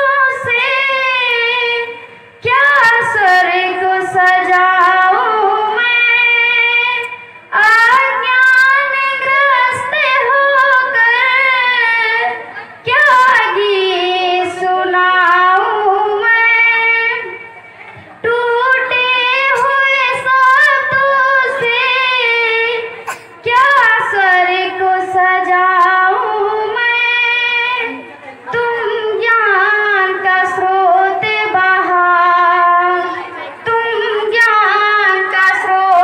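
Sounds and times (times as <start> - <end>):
girl singing into microphone: 0.0 - 36.0.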